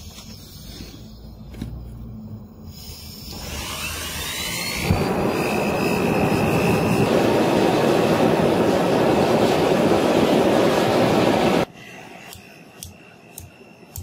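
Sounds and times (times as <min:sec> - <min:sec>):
gas forge burner roaring: 0:01.4 - 0:14.0.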